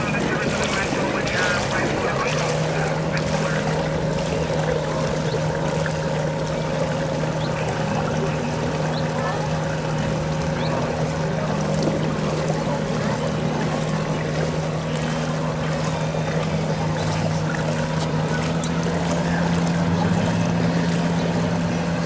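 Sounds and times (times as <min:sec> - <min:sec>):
faint voices: 0:00.0 - 0:22.0
steady motor hum: 0:00.0 - 0:22.0.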